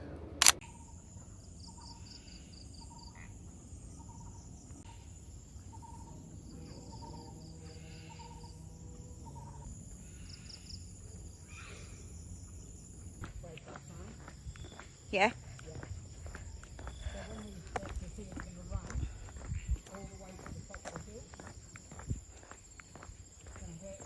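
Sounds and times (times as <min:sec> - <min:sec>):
insects chirring: 0:00.4 - 0:24.0.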